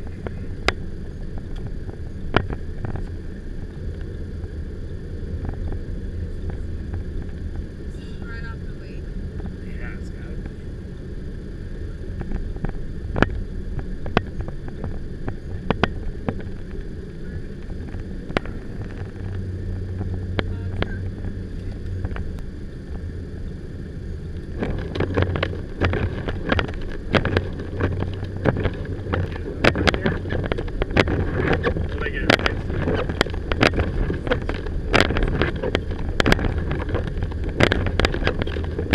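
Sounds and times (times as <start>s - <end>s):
road and wind noise in vehicle: 0.0s - 38.9s.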